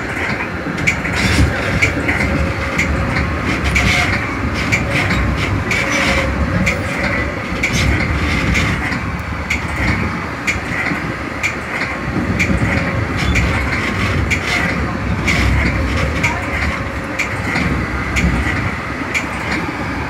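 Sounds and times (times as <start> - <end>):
train wheel rumble: 0.0 - 20.0
wheels clicking on track: 0.0 - 20.0.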